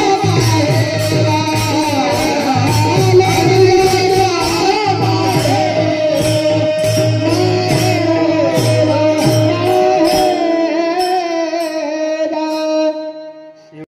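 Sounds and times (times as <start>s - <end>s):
rhythmic accompaniment: 0.0s - 13.8s.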